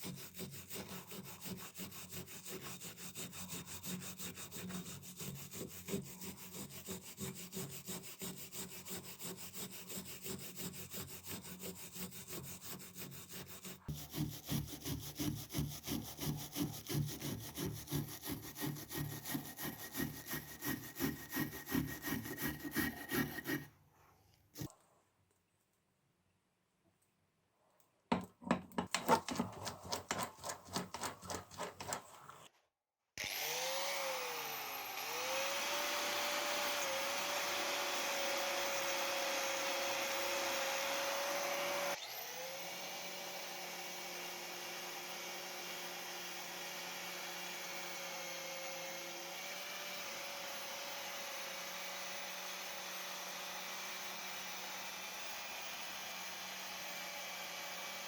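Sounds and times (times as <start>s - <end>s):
power tool grinding metal: 0.4s - 23.7s, 33.2s - 58.0s.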